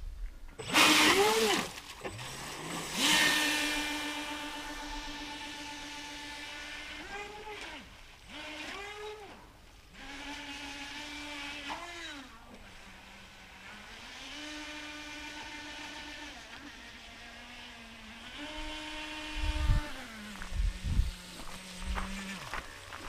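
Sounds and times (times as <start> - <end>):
electric motor whining: 0.6 - 23.0.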